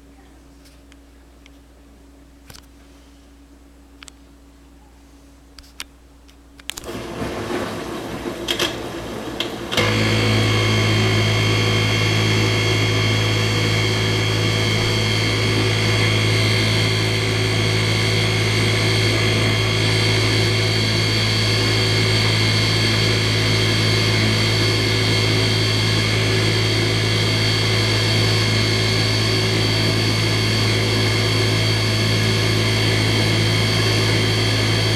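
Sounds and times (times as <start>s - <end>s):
dishwasher droning hum: 6.7s - 34.9s.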